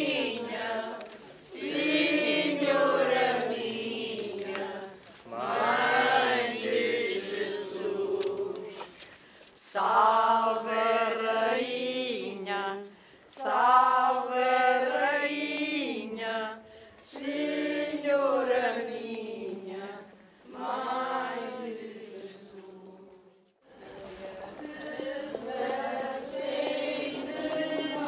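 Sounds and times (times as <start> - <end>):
group singing a hymn: 0.0 - 28.0.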